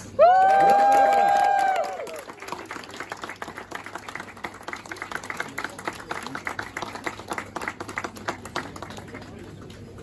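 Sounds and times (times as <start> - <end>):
small group applauding: 0.1 - 10.0.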